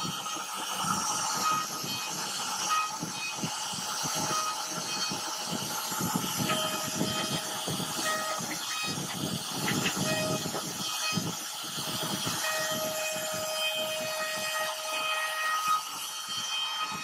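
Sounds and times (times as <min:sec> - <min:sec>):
cnc router cutting wood: 0:00.0 - 0:17.0
thin whine: 0:00.0 - 0:17.0.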